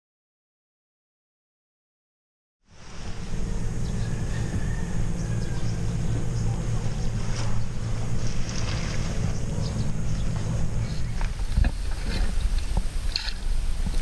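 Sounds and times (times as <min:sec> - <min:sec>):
boat engine humming: 0:02.7 - 0:14.0.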